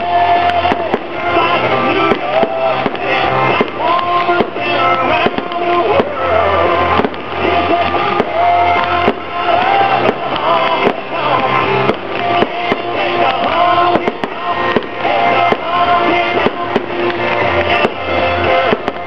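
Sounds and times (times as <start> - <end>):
firework shells banging: 0.0 - 19.0
rock music with guitar: 0.0 - 19.0.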